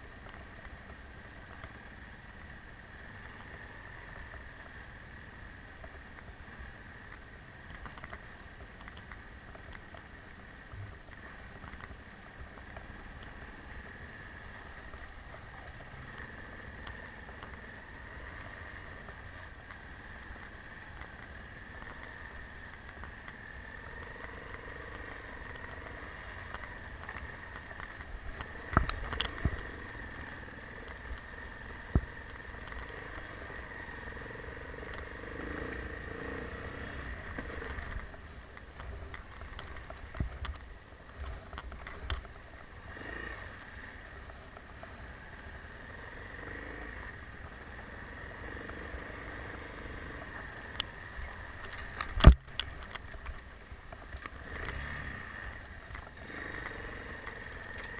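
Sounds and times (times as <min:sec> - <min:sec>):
motorcycle engine hum: 0:00.0 - 0:57.9.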